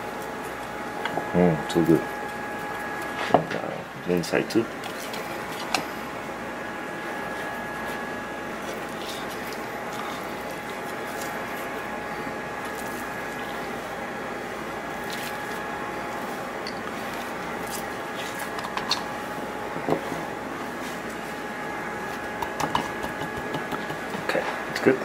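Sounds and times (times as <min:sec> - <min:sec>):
ventilation fan hum: 0:00.0 - 0:25.0.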